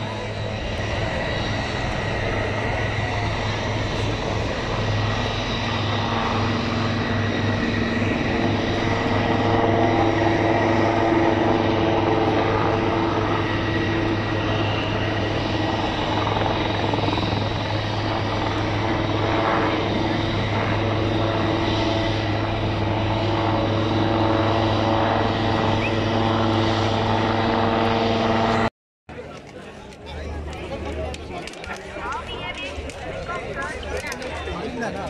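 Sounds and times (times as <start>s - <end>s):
high turbine whine: 0.0s - 28.7s
helicopter rotor beat: 0.0s - 35.0s.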